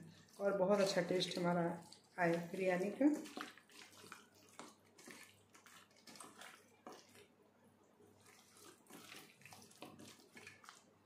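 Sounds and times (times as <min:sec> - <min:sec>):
wet squelching of hand mixing: 0:00.0 - 0:11.0.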